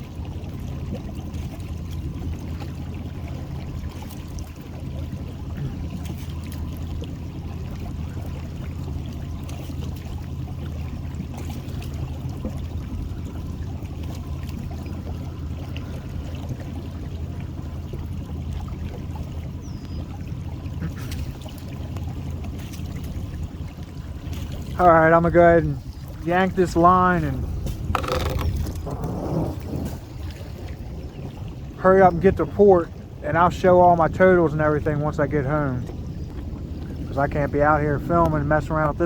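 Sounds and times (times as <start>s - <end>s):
boat motor running: 0.0s - 39.0s
water wash: 0.0s - 39.0s.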